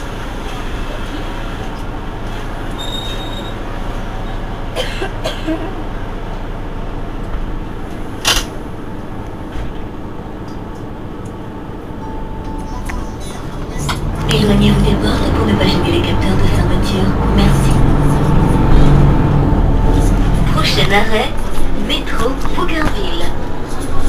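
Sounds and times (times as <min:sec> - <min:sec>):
bus engine idling: 0:00.0 - 0:24.0.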